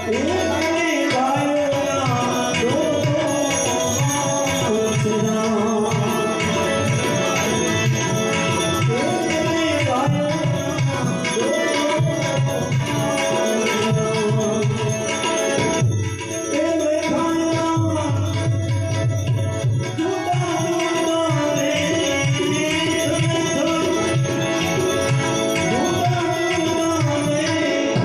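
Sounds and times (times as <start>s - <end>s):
harmonium chords: 0.0s - 28.0s
tabla rhythm: 0.0s - 28.0s.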